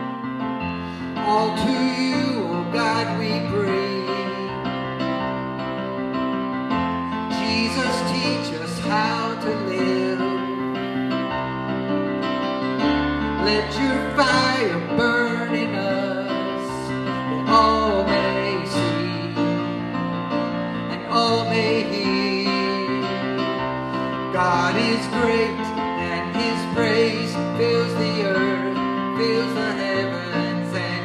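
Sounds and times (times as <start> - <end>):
worship band instrumental: 0.0 - 31.0.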